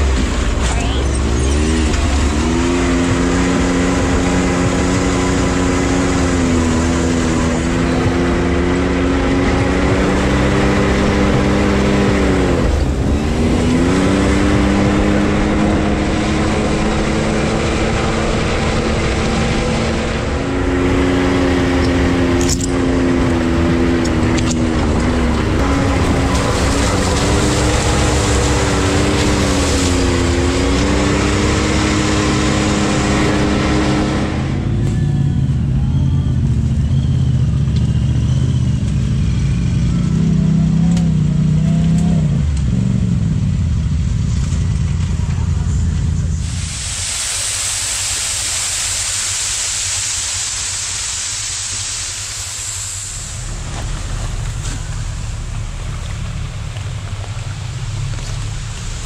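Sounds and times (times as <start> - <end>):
steady rushing noise: 0.0 - 41.2, 42.4 - 59.0
utv engine running: 0.0 - 59.0.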